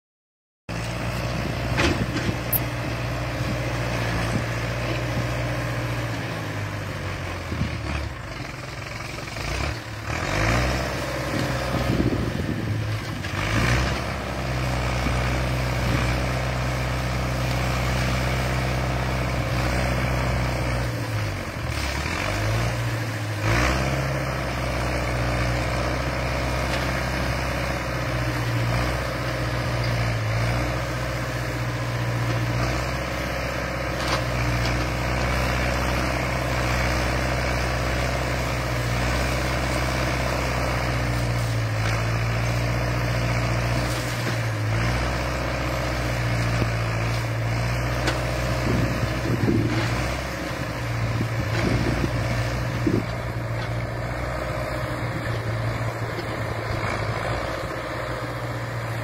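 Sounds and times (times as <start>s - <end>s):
tractor engine running: 0.7s - 59.0s.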